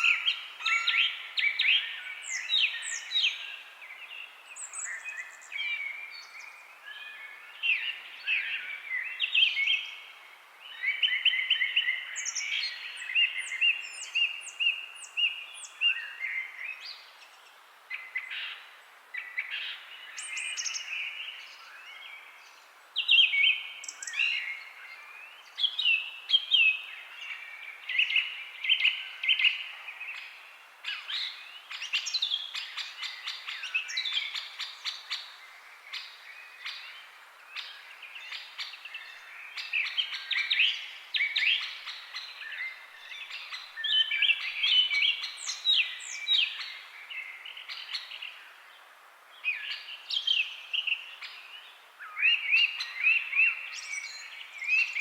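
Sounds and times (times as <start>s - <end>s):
birds chirping and singing: 0.0s - 10.0s, 19.2s - 48.6s, 49.4s - 55.0s.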